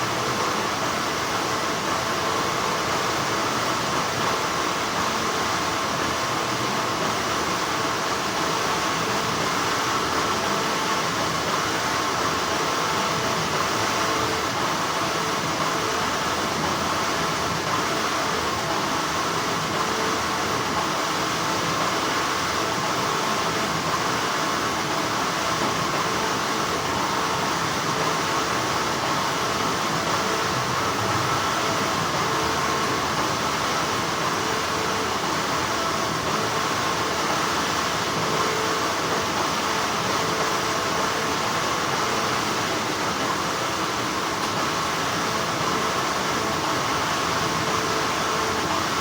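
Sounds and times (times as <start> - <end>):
factory machinery hum: 0.0 - 49.0.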